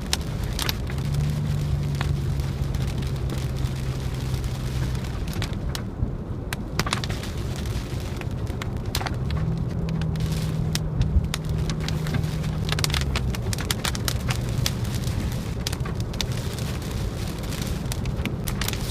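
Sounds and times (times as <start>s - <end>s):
car cabin engine and tyre drone: 0.0s - 18.9s
raindrops ticking on windshield: 0.0s - 18.9s.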